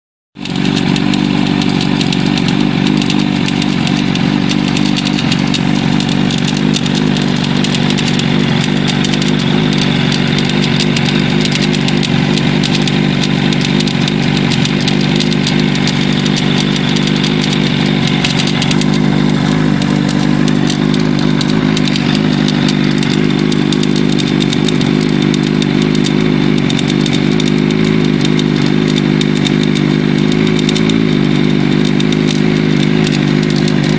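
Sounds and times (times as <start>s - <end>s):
engine rattle: 0.4s - 33.9s
motorcycle engine idling: 0.4s - 33.9s.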